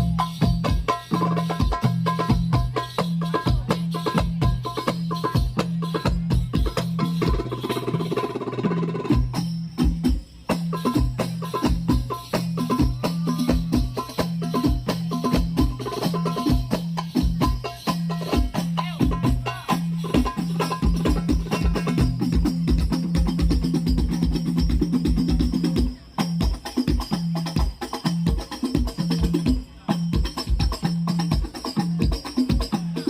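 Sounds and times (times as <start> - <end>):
frame drums and bass drum rhythm: 0.0 - 33.0.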